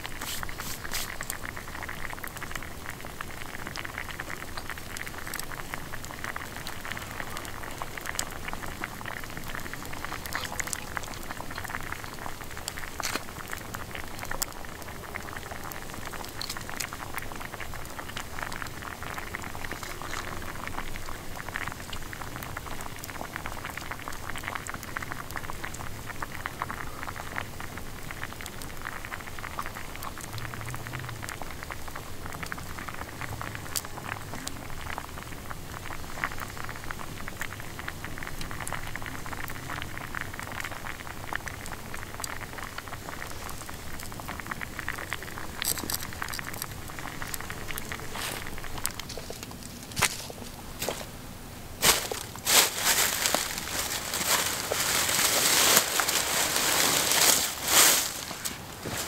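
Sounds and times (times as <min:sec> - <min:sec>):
frying pan sizzling: 0:00.0 - 0:26.4, 0:34.6 - 0:59.0
campfire crackling and popping: 0:00.0 - 0:59.0.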